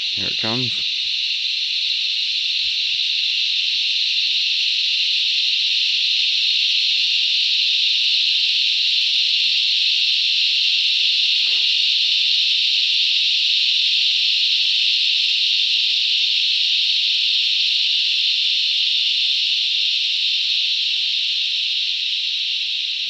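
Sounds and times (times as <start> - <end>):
cicadas buzzing: 0.0 - 23.0.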